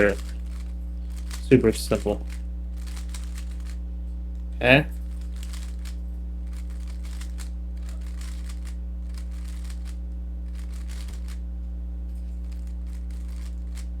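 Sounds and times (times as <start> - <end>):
puzzle cube clicking: 0.0 - 3.8, 5.2 - 11.4, 12.5 - 13.9
electrical hum: 0.0 - 14.0.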